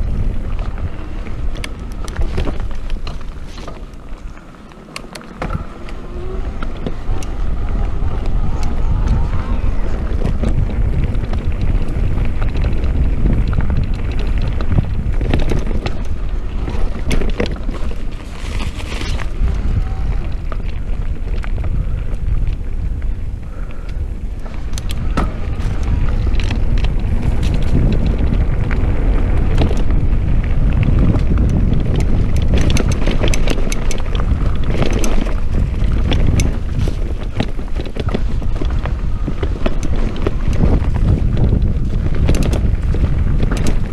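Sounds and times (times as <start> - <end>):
bike rattling over bumps: 0.0 - 43.9
bike tyres on dirt: 0.0 - 43.9
wind rumble on microphone: 0.0 - 43.9.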